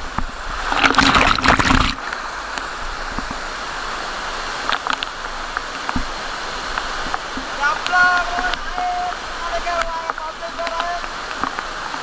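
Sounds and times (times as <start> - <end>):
rushing waterfall water: 0.0 - 12.0.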